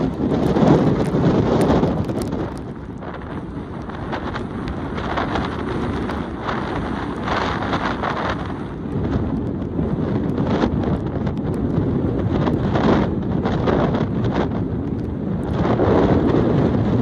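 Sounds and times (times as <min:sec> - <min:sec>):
storm waves breaking: 0:00.0 - 0:17.0
wind buffeting microphone: 0:00.0 - 0:17.0.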